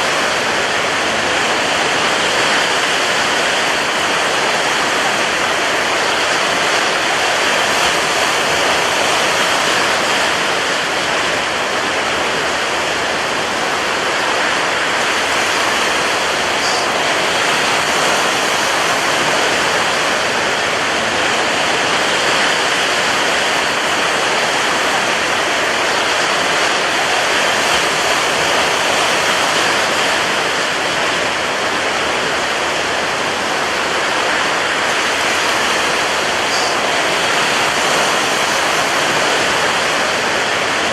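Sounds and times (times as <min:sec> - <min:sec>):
rough sea surf rushing: 0:00.0 - 0:40.9.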